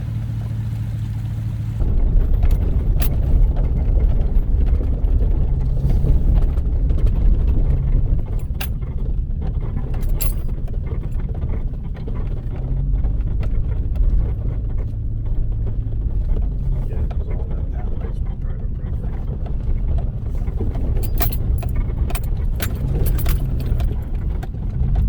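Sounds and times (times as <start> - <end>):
vehicle engine and tyre rumble: 0.0 - 25.0
clicks and rattles: 1.8 - 18.0, 18.8 - 25.0.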